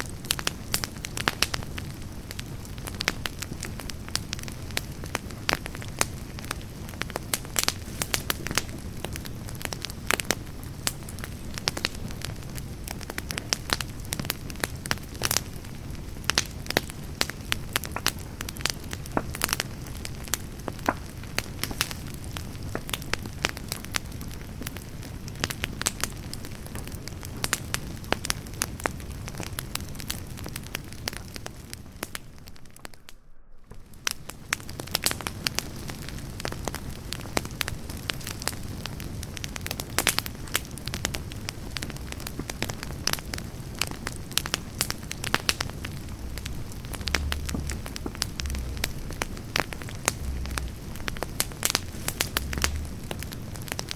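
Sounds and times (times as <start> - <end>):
fire pops and crackles: 0.0 - 53.9
low rumble of flames: 0.0 - 53.9.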